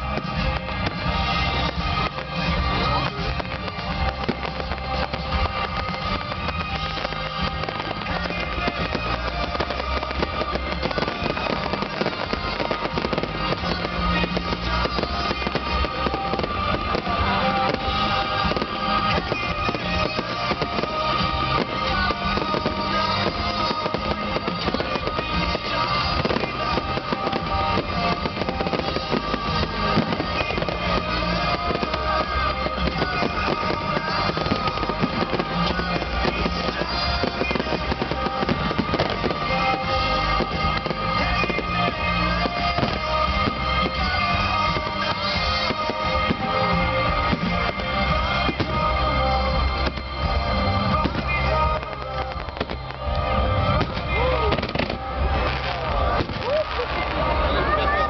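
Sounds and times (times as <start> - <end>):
fireworks crackling and popping: 0.0 - 58.0
music: 0.0 - 58.0.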